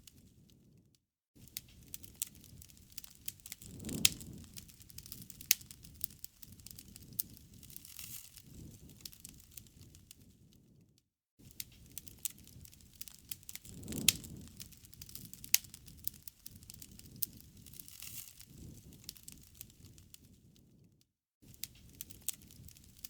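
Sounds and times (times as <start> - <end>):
campfire crackling and popping: 1.4 - 10.7, 11.4 - 20.4, 21.4 - 23.0
low rush of flame: 1.6 - 10.4, 11.5 - 20.8, 21.5 - 23.0.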